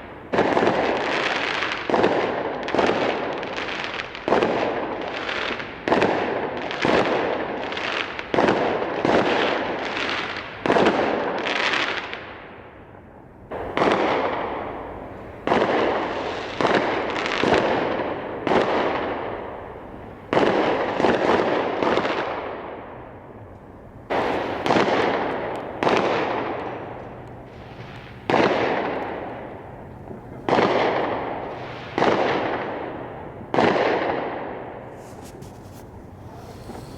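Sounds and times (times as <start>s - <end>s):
fireworks bangs: 0.0s - 12.2s, 13.5s - 36.9s.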